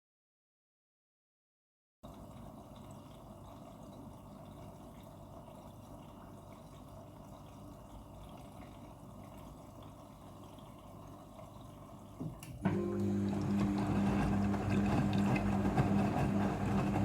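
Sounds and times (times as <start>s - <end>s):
water moving in washing machine drum: 2.1s - 17.0s.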